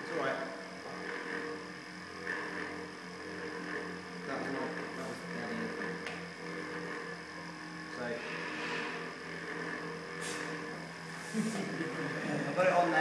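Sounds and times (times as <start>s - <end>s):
electrical motor hum: 0.0s - 13.0s.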